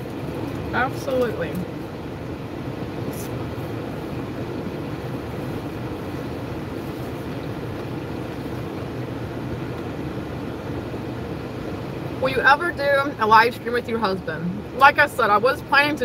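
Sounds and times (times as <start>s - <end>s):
car cabin engine rumble: 0.0s - 16.0s.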